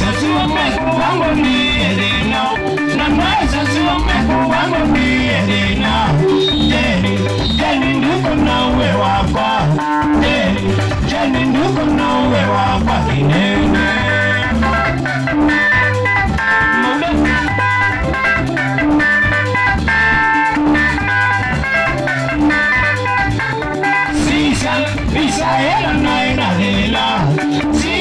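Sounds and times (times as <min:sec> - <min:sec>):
bass guitar line: 0:00.0 - 0:28.0
electric guitar lead melody: 0:00.0 - 0:28.0.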